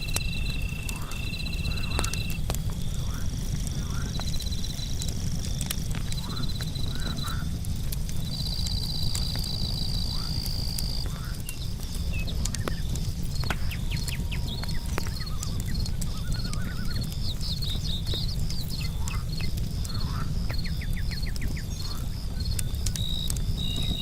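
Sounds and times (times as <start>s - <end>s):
frogs calling: 0.0s - 7.6s, 8.2s - 24.0s
campfire crackling: 0.0s - 24.0s
crickets trilling: 0.0s - 24.0s
steady low rumble: 0.0s - 24.0s.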